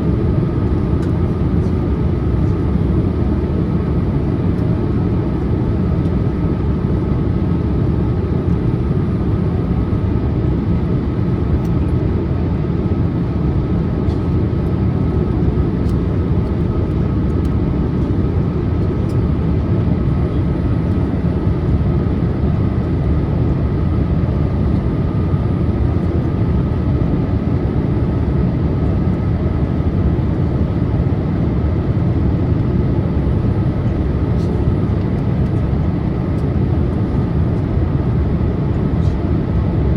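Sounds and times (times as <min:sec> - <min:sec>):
aircraft cabin engine rush: 0:00.0 - 0:39.9.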